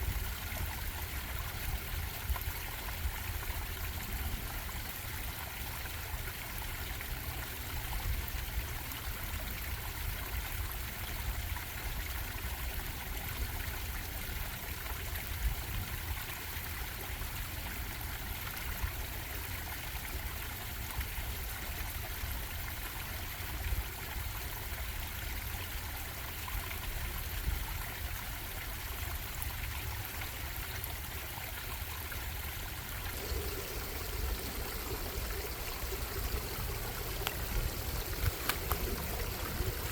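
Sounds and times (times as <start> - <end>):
stream bubbling and trickling: 0.0 - 39.9.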